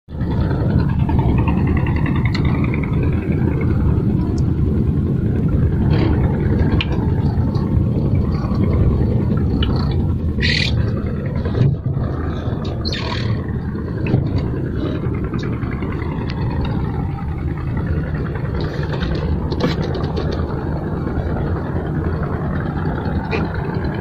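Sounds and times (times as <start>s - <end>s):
diesel engine rumbling: 0.1s - 24.0s.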